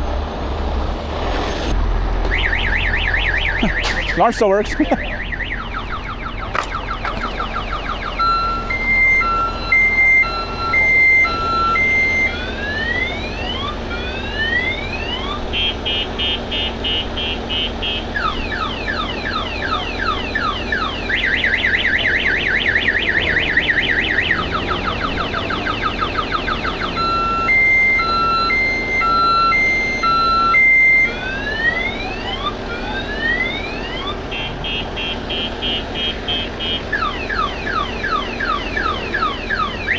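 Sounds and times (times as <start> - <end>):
car alarm siren: 2.3 - 39.9.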